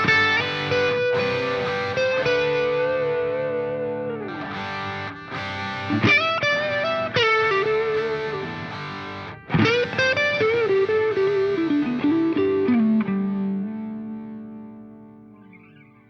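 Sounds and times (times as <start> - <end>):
distorted electric guitar music: 0.0 - 16.0.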